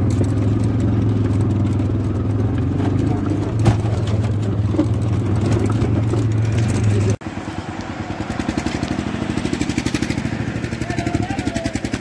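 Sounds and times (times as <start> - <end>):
small engine puttering: 0.0 - 12.0
vehicle engine humming: 0.0 - 12.0.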